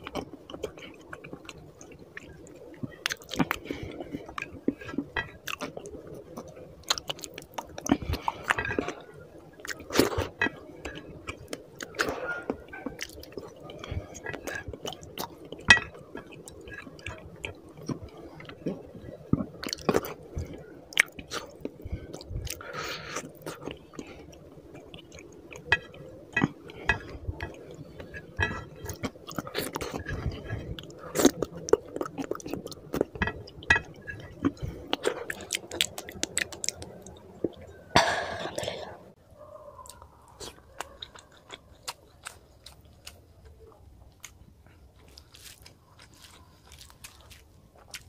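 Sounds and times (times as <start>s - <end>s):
person chewing with mouth smacks: 0.0s - 39.0s, 39.8s - 48.0s.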